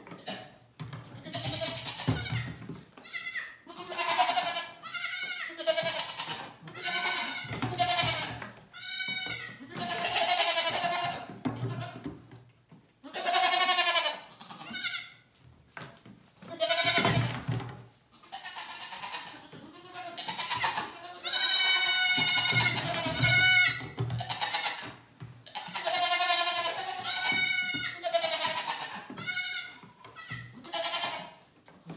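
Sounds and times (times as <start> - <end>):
goats bleating: 0.1 - 12.1, 13.0 - 15.2, 16.5 - 17.3, 18.1 - 31.4.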